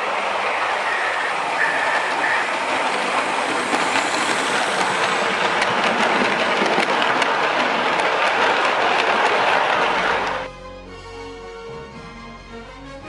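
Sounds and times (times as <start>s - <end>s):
train wheels rolling on rails: 0.0s - 10.5s.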